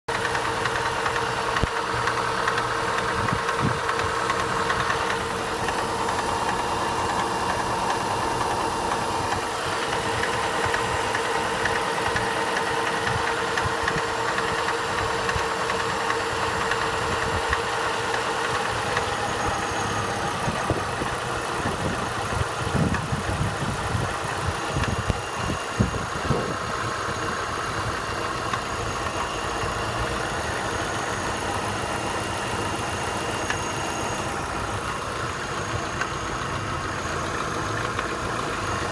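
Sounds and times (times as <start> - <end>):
car engine idling: 0.1 - 38.9
rapid engine knocking: 0.1 - 38.9.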